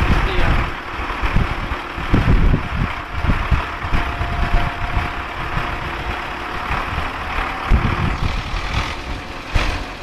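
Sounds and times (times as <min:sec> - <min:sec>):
low knocks and rumbles: 0:00.0 - 0:10.0
vehicle engine running: 0:00.0 - 0:10.0.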